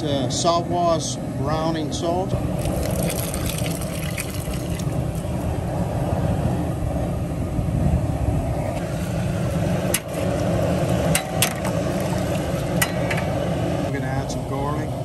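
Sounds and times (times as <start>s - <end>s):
gas burner rushing: 0.0s - 15.0s.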